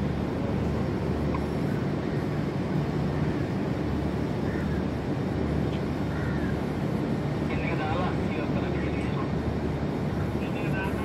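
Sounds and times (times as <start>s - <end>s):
ship engine rumbling: 0.0s - 11.0s.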